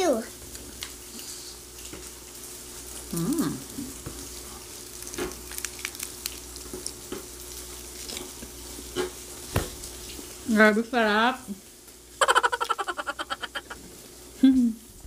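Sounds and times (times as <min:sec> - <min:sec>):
meat sizzling with pops: 0:00.0 - 0:10.5, 0:11.5 - 0:15.0.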